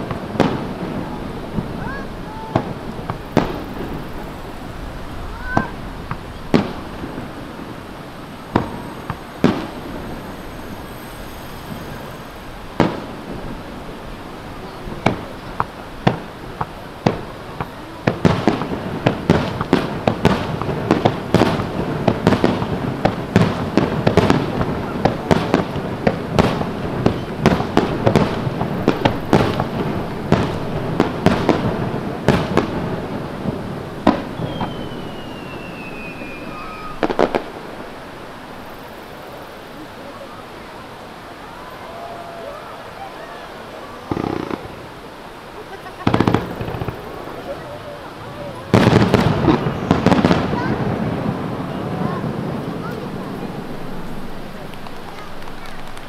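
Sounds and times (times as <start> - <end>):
fireworks bursting in bangs: 0.0 - 39.9, 43.8 - 45.2, 45.8 - 56.0.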